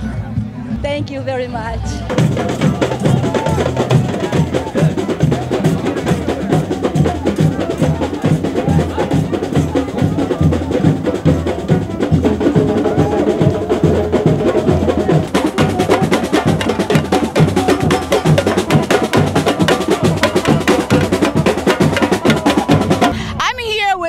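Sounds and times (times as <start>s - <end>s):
bass drums beating: 0.0s - 23.9s.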